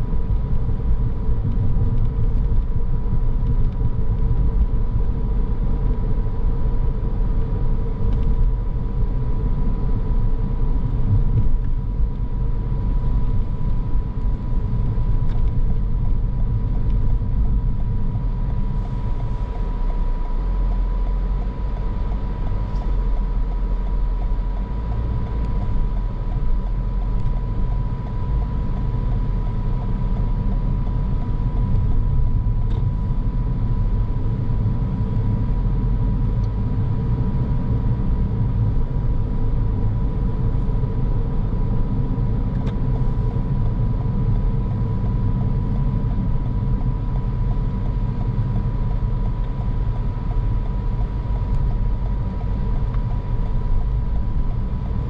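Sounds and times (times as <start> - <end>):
car driving: 0.0 - 55.0.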